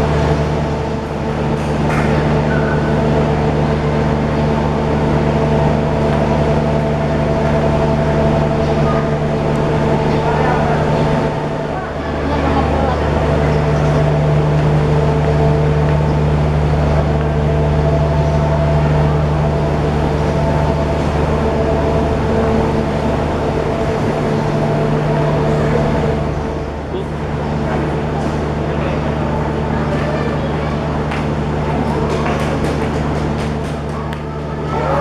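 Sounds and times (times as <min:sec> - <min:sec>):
diesel train humming: 0:00.0 - 0:35.0.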